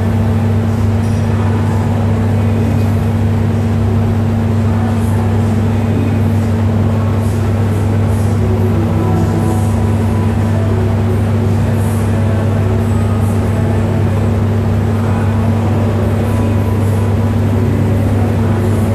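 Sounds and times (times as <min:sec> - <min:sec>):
loud low hum: 0:00.0 - 0:18.9.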